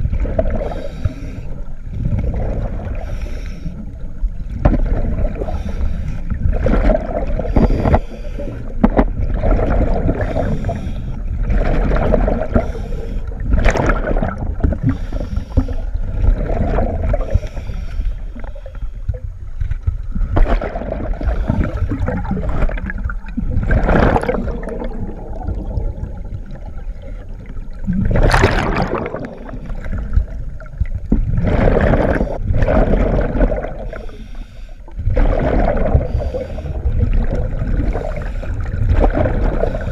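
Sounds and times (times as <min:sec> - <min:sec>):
exhaled bubbles gushing: 0:00.0 - 0:03.2, 0:03.8 - 0:17.5, 0:19.1 - 0:34.2, 0:34.9 - 0:39.9
low water rumble: 0:00.0 - 0:39.9.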